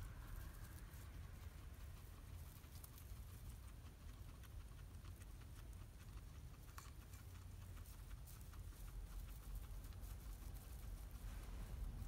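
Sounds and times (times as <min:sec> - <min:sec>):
guinea pig chewing hay: 0:00.0 - 0:12.0.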